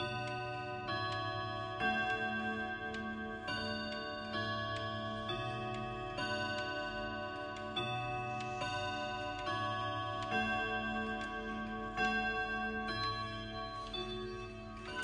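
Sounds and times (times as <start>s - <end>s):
clock chime melody: 0.0s - 15.0s
clock ticking: 0.0s - 15.0s.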